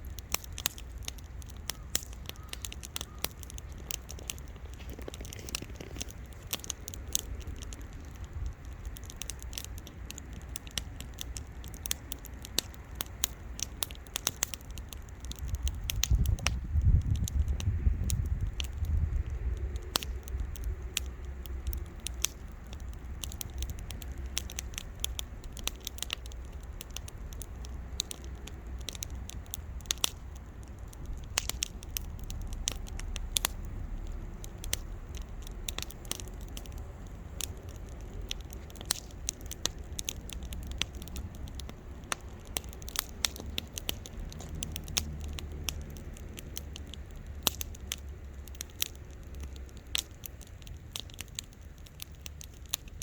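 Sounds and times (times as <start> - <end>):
low steady rumble: 0.0 - 53.0
sharp pops and snaps: 0.0 - 53.0
wood bonfire crackling: 0.0 - 53.0.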